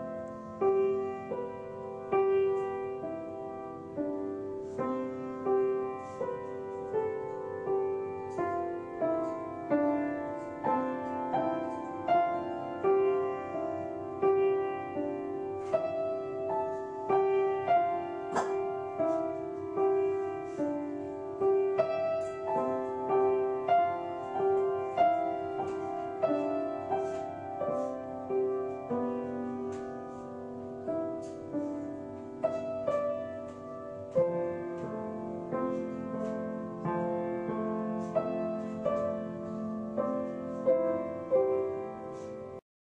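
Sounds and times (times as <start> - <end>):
solo piano melody: 0.0 - 42.6.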